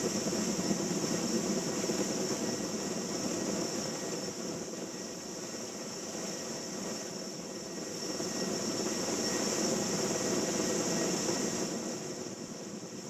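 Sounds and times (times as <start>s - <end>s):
helicopter engines and rotor: 0.0s - 13.0s.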